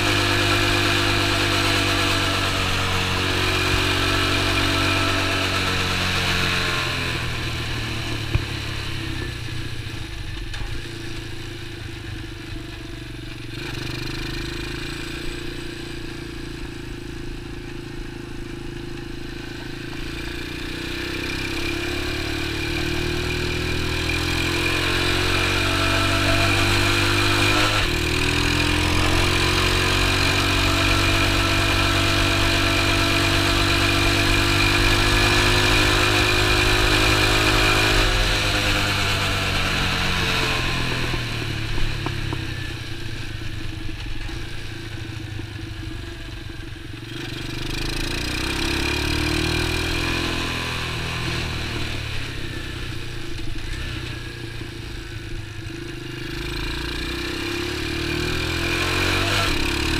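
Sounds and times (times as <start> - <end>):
small motorbike engine revving: 0.0 - 59.9.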